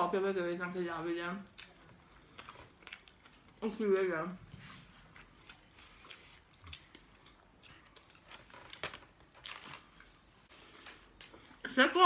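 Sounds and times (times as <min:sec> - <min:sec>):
people chewing burgers: 0:01.4 - 0:11.6.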